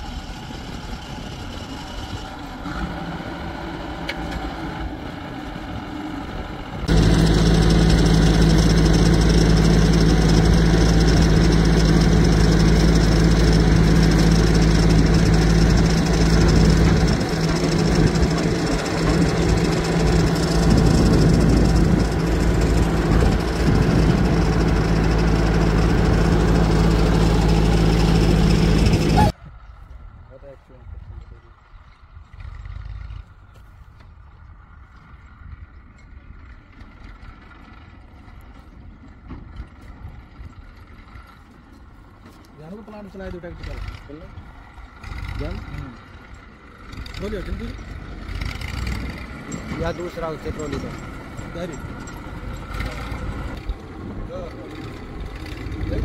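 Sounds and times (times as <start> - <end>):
diesel engine running: 0.0 - 29.4, 32.2 - 56.0.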